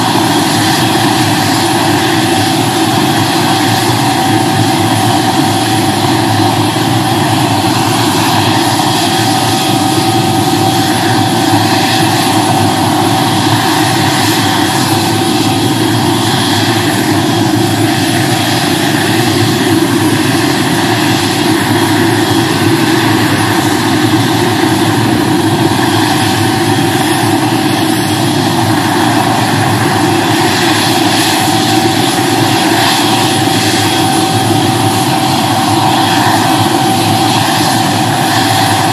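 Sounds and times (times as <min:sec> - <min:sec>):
helicopter engine and rotor running: 0:00.0 - 0:38.9.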